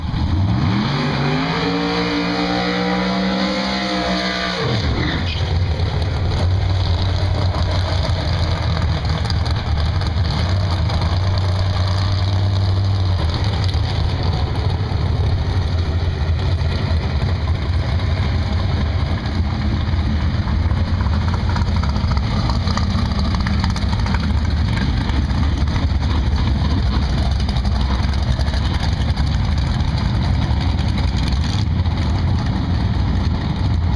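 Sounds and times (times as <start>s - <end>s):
race car engine revving: 0.0s - 33.8s
low engine rumble: 4.6s - 33.9s.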